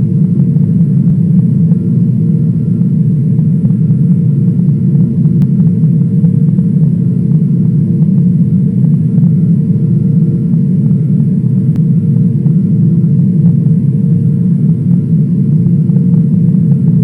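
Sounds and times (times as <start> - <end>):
airliner engine rumble: 0.0 - 17.0
faint high hum: 0.0 - 17.0.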